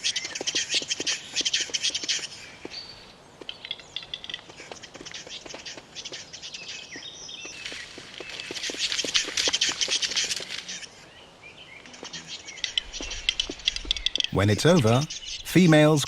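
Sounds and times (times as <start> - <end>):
birds clicking and chirping: 0.0 - 11.1, 11.8 - 16.0.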